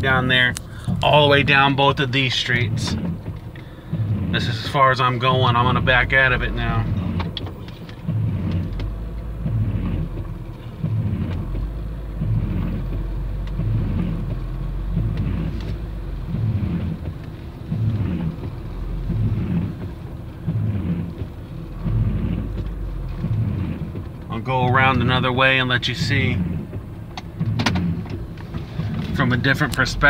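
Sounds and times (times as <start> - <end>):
vehicle engine running low: 0.0 - 30.0
windshield wipers whirring: 0.0 - 30.0.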